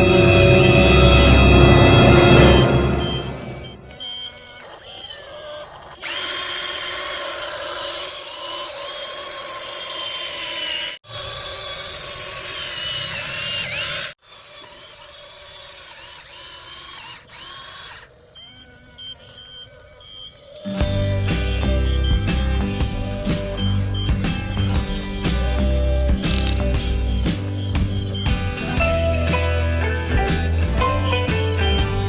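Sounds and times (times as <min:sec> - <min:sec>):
small electric motor whirring: 0:00.0 - 0:31.1.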